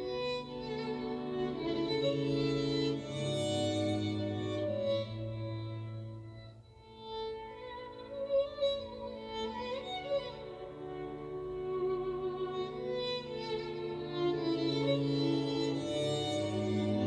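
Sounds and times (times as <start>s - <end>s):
violin playing slow notes: 0.0s - 17.0s.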